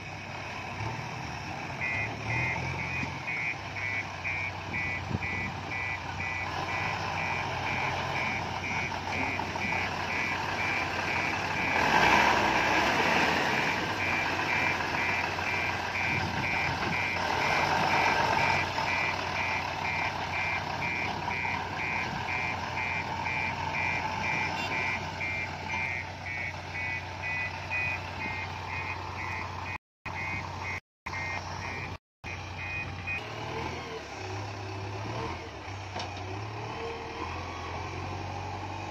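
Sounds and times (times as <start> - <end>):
diesel engine running: 0.0 - 38.9
reversing alarm beeping: 1.7 - 33.3.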